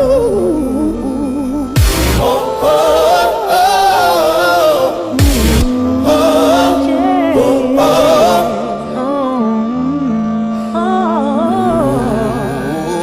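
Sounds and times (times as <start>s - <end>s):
low drone note: 0.0s - 13.0s
noisy swells: 0.0s - 13.0s
wavering melody line: 0.0s - 13.0s.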